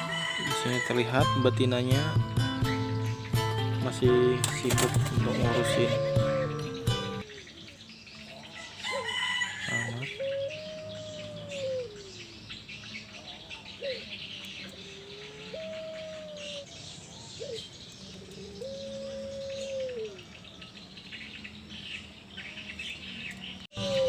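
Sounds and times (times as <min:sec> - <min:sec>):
doves cooing: 0:00.0 - 0:02.1, 0:02.7 - 0:20.8, 0:23.3 - 0:24.0
small birds chirping faintly: 0:00.0 - 0:24.0.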